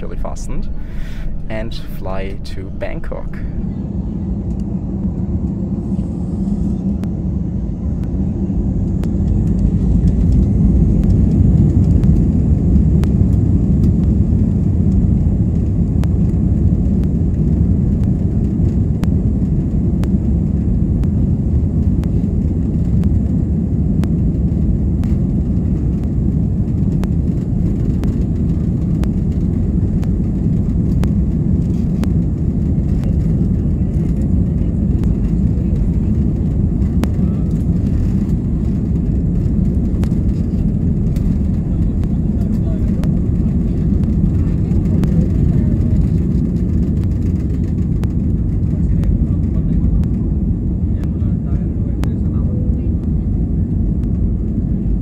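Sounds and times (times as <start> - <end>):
jet engines spooling up: 0.0 - 48.8.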